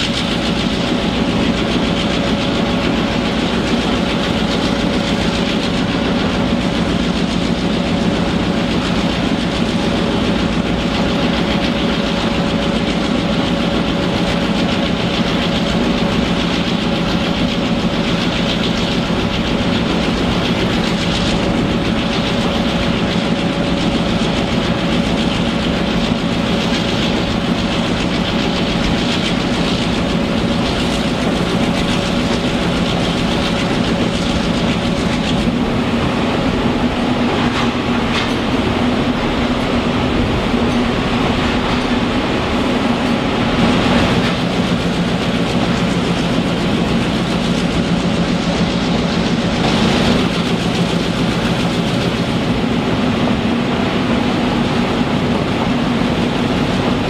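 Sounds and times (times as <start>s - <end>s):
clacks over rail joints: 0.0s - 57.0s
train wheels rumbling on rails: 0.0s - 57.0s.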